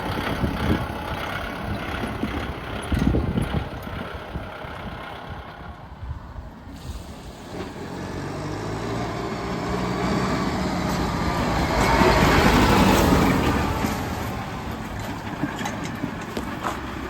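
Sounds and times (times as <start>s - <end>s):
tractor diesel engine passing: 0.0s - 17.0s.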